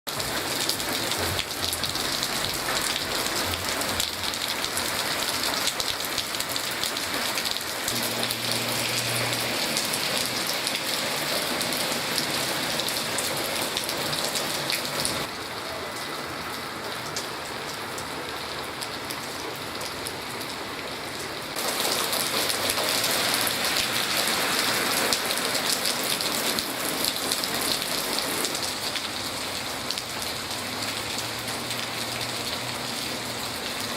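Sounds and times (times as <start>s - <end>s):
rain on hard surfaces: 0.1s - 33.9s.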